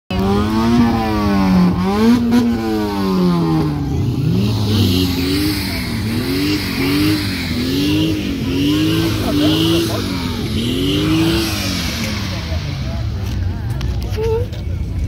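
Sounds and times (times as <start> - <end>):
car engines revving: 0.1 - 15.0.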